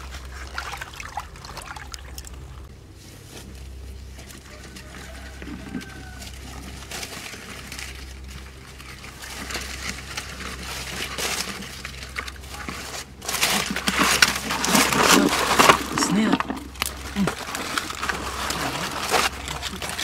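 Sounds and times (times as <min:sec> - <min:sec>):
dense irregular clicking and crackling: 0:03.3 - 0:20.0.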